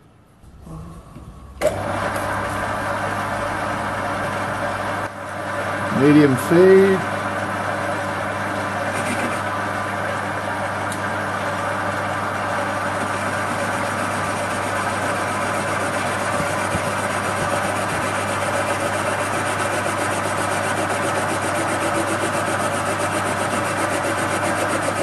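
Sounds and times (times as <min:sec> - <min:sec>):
metal lathe motor hum: 0:00.4 - 0:25.0.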